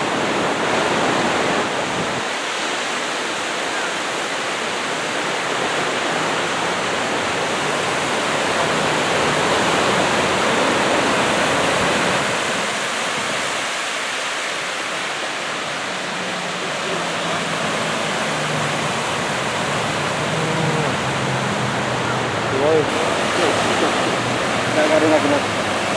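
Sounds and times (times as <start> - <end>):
waves breaking on beach: 0.0 - 25.9.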